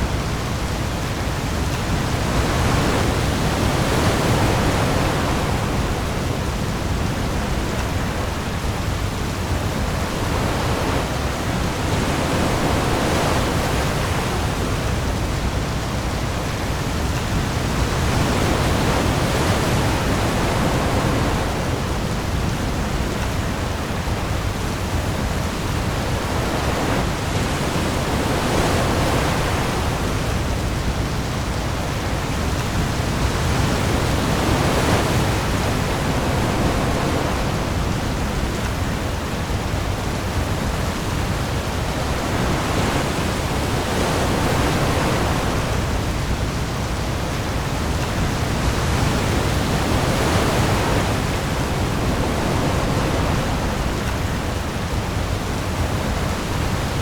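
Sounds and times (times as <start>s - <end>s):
heavy rain on sea: 0.0s - 57.0s.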